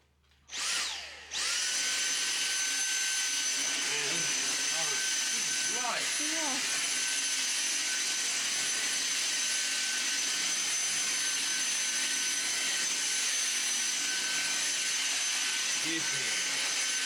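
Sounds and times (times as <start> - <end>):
vacuum cleaner running: 0.5 - 17.0.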